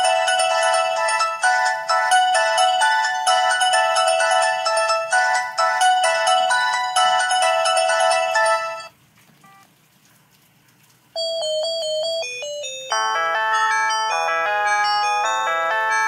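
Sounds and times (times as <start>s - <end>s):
electronic phone ringtones: 0.0s - 8.9s, 11.2s - 16.0s.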